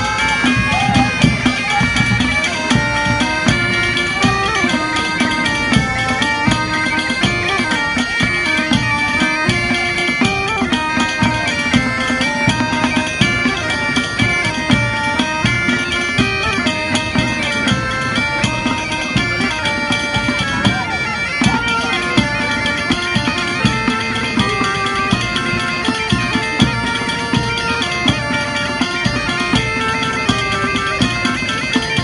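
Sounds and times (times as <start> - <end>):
bagpipes playing dance tune: 0.0 - 32.0
drums beating: 0.0 - 32.0.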